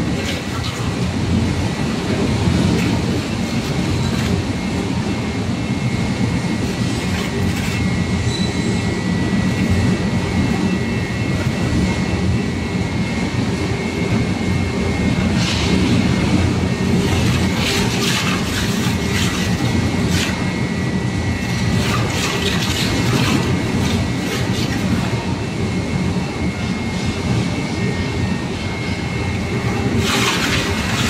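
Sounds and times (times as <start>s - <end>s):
shredder rumble with high whine: 0.0s - 31.0s.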